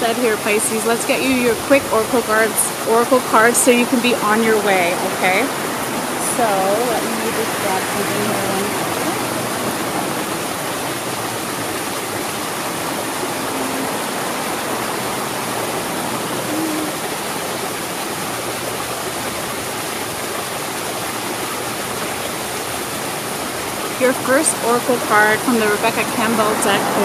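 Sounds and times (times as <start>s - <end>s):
water splashing over stones: 0.0s - 27.0s.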